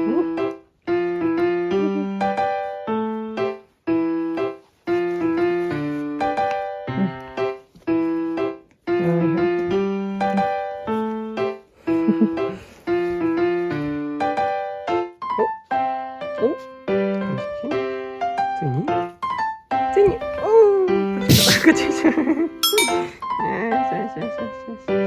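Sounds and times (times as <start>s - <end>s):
electric piano melody: 0.0s - 21.4s.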